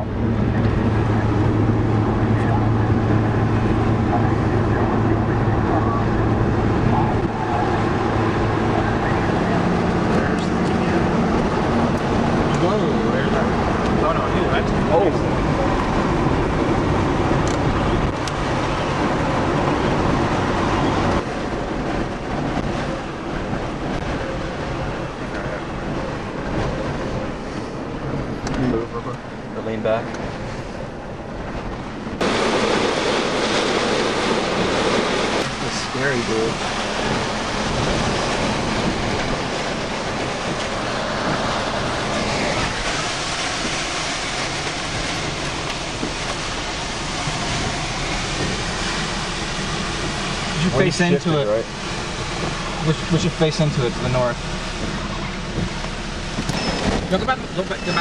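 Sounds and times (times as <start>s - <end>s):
car interior road noise: 0.0s - 58.0s
heavy rain on vehicle: 0.0s - 58.0s
storm wind buffeting vehicle: 0.0s - 58.0s.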